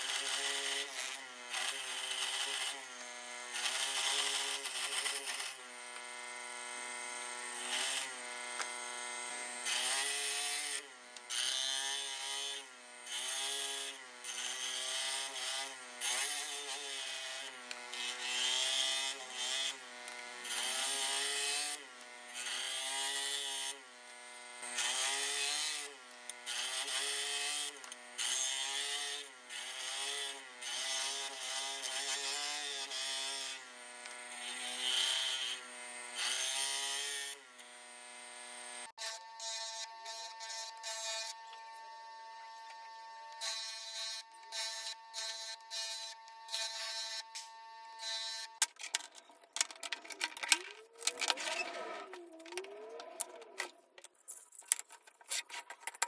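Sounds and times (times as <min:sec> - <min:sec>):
power tool motor whine: 0:00.0 - 0:54.1.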